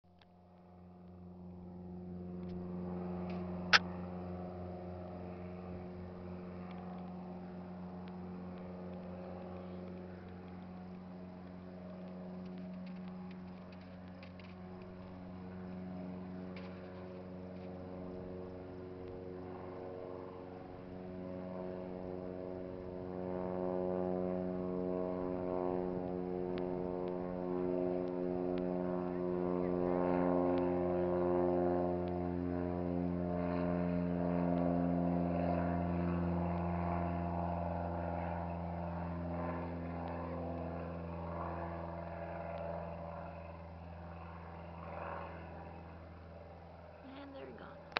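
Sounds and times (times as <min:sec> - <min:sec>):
propeller plane engine running: 0:00.1 - 0:47.9.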